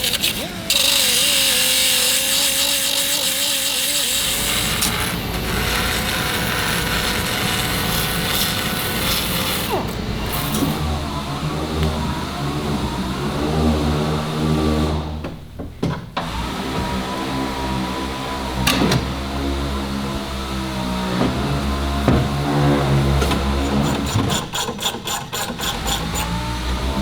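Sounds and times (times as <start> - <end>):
power tool cutting: 0.0 - 15.2, 16.2 - 27.0.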